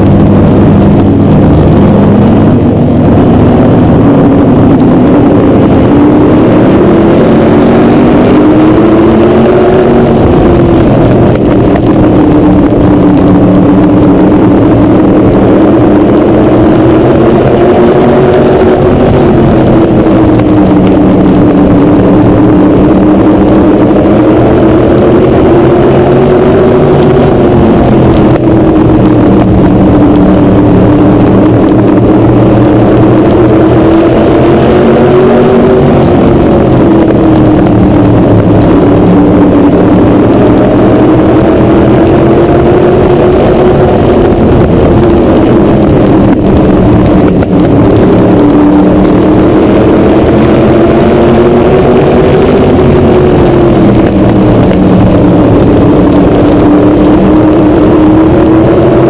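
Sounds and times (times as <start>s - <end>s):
other race cars passing: 0.0s - 59.0s
race car engine: 0.0s - 59.0s
wind noise: 0.0s - 59.0s.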